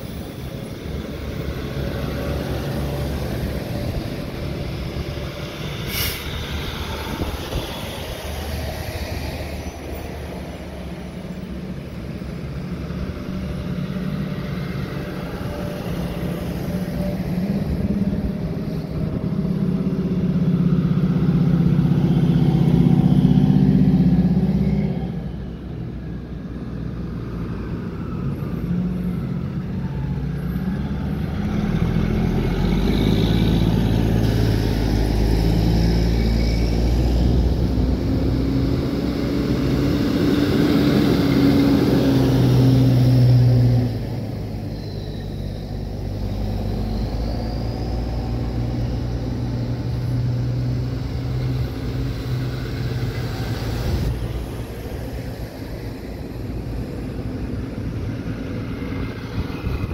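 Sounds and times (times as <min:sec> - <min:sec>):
fire engines rumbling past: 0:00.0 - 0:59.9.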